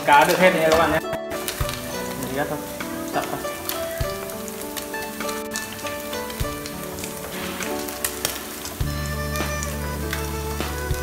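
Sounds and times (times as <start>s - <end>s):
fish sizzling in hot oil: 0.0s - 11.0s
small pops and clicks: 0.2s - 11.0s.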